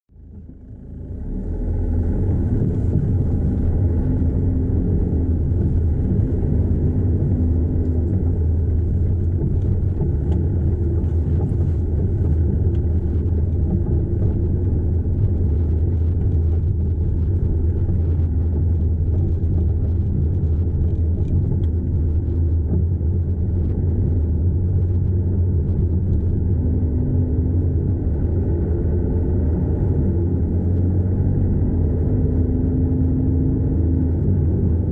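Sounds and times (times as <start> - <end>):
car cabin rumble: 0.1 - 34.9.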